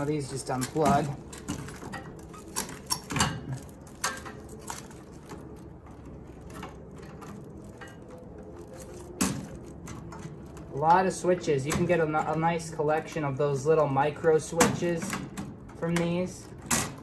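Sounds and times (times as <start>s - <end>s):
faint handling noises: 0.0s - 17.0s
wire connectors clicking off terminals: 0.0s - 17.0s.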